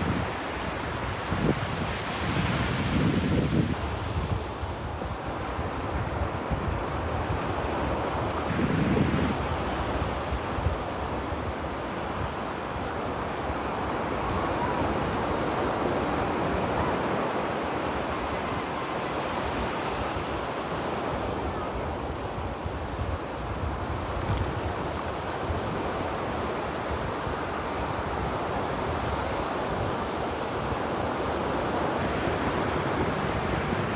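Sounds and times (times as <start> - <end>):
ocean waves breaking on beach: 0.0 - 21.8, 25.2 - 33.9.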